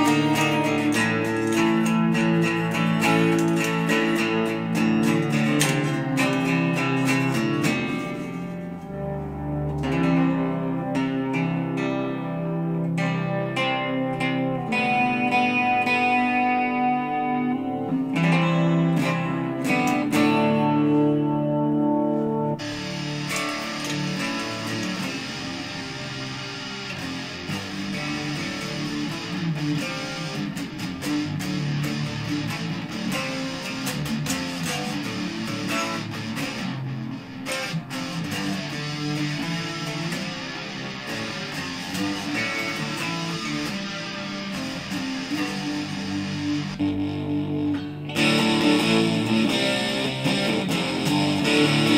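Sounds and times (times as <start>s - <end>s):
electric guitar chords and notes: 0.0s - 51.9s.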